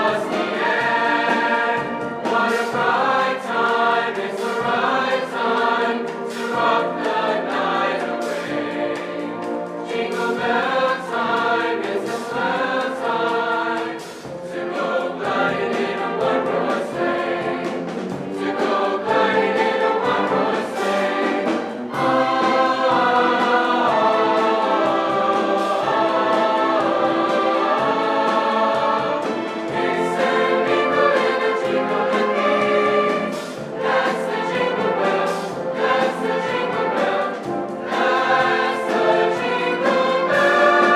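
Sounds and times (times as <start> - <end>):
choir singing in parts: 0.0 - 40.9.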